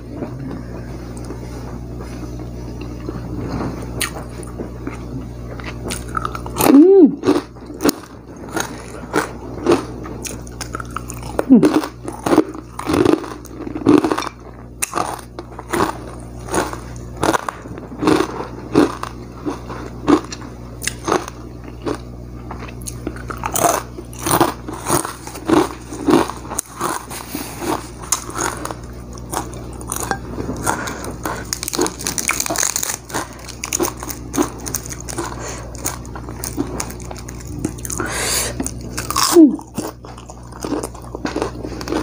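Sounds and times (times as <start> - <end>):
person chewing crunchy food: 0.0 - 42.0.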